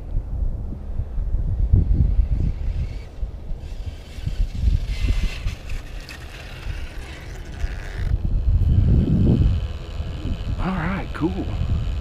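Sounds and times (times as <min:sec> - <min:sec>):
wind buffeting microphone: 0:00.0 - 0:12.0
electric motor whining: 0:02.2 - 0:12.0.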